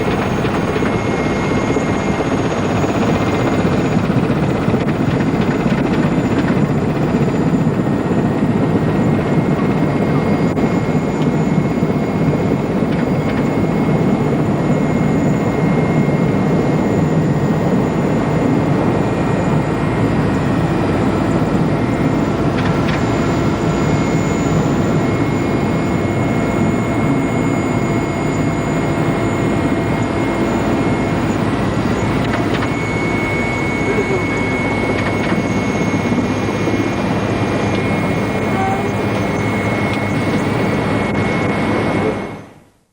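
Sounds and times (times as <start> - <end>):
helicopter engine and rotor drone: 0.0 - 42.8
high steady whine: 0.0 - 42.9.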